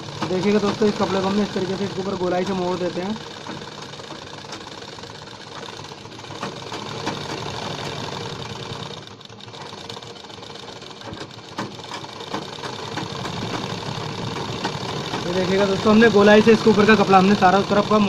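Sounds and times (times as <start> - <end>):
sewing machine running: 0.0 - 18.0.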